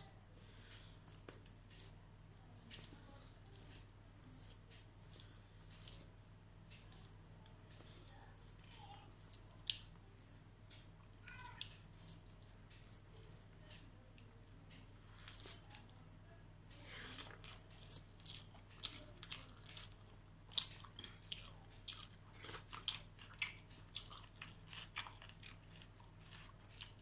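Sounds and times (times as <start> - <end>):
low steady hum: 0.0 - 27.0
fingers squishing food on plate: 0.4 - 27.0.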